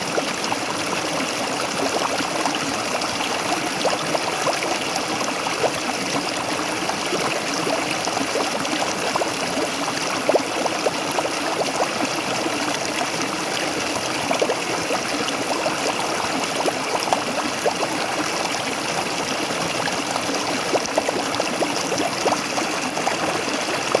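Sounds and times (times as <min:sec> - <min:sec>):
water bubbling and gurgling: 0:00.0 - 0:24.0.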